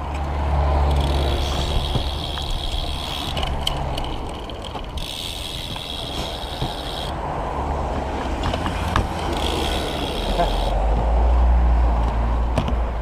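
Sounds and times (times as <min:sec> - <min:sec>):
bike mechanical clicks: 0:00.0 - 0:11.0
passing road traffic: 0:00.0 - 0:13.0.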